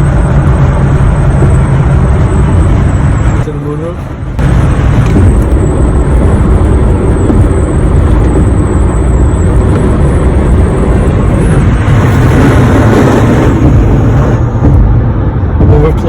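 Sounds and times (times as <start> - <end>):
wind and road rush in car cabin: 0.0 - 16.0.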